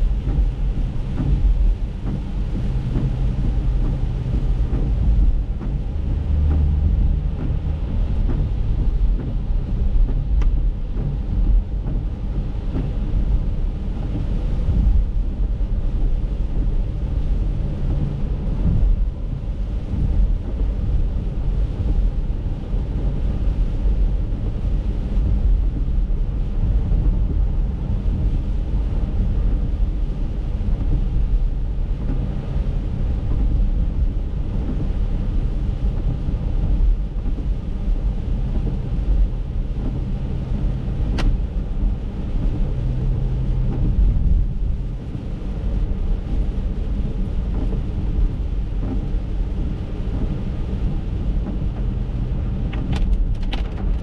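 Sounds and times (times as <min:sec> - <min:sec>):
tyre and engine rumble: 0:00.0 - 0:54.0.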